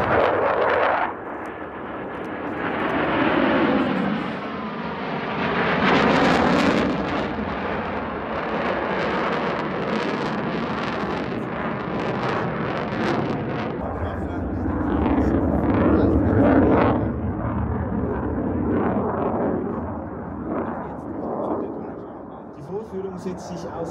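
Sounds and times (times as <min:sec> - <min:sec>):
aircraft engine flying past: 0:00.0 - 0:23.9.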